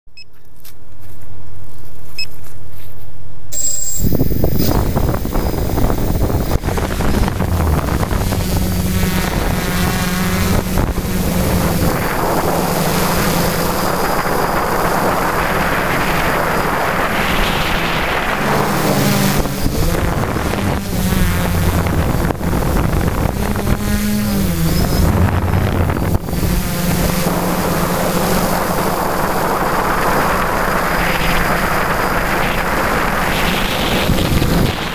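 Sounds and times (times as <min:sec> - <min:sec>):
quadcopter motors buzzing: 0:03.6 - 0:34.9
wind rush: 0:03.6 - 0:34.9.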